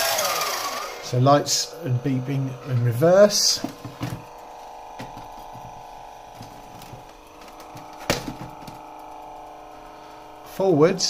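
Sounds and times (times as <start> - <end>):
rc car whining motor: 0.0 - 11.0.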